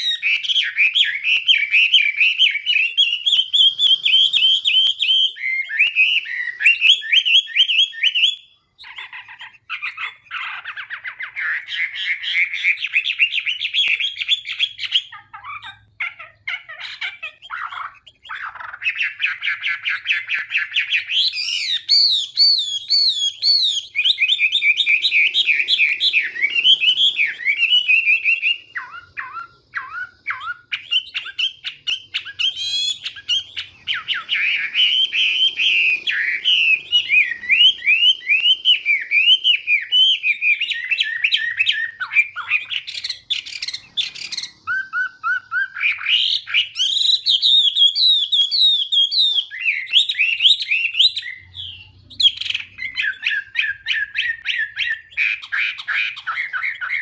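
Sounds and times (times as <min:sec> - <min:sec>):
songbird whistling and trilling: 0:00.0 - 0:57.0.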